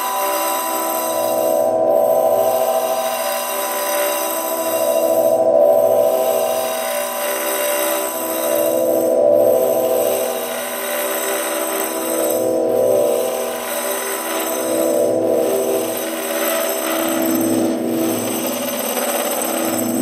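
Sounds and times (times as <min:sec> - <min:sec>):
electronic drone with pulsing buzz: 0:00.0 - 0:20.0.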